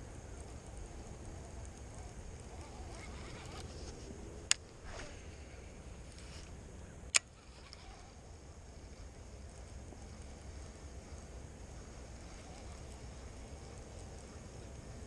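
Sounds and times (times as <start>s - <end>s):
low steady microphone rumble: 0.0s - 15.0s.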